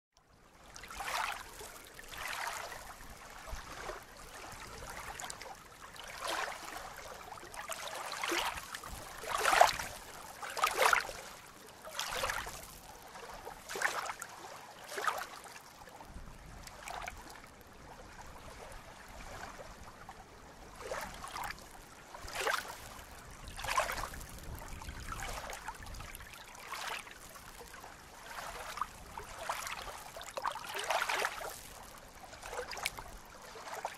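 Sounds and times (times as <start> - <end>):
soft water splashes: 0.2 - 33.9
lake waves lapping: 0.6 - 33.9.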